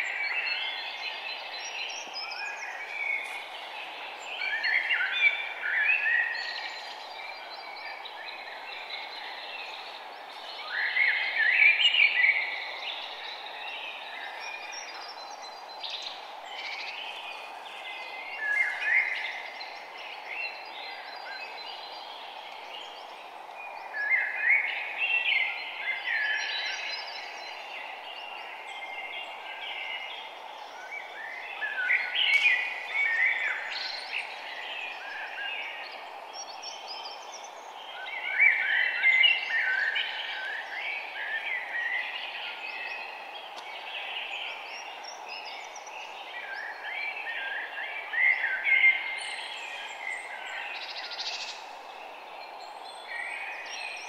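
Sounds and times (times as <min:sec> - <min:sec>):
background hiss: 0:00.0 - 0:54.0
songbirds chirping: 0:00.0 - 0:54.0.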